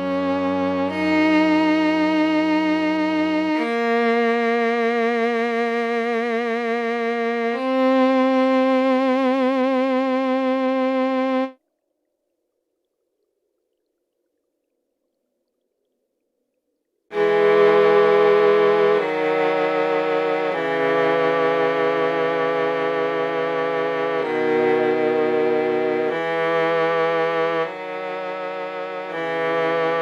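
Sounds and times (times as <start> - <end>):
synth strings with vibrato: 0.0 - 11.6, 17.1 - 30.0.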